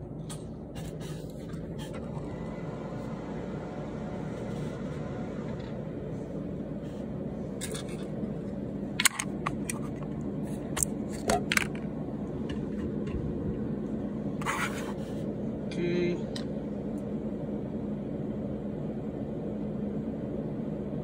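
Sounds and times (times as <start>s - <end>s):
fan humming: 0.0s - 21.0s.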